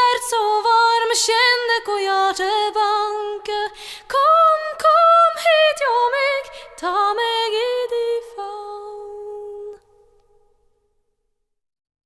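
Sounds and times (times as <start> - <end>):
woman singing unaccompanied: 0.0 - 10.0.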